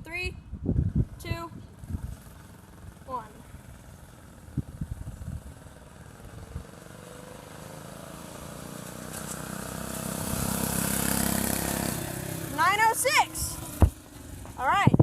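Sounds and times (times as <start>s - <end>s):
small engine at full throttle: 1.8s - 14.6s.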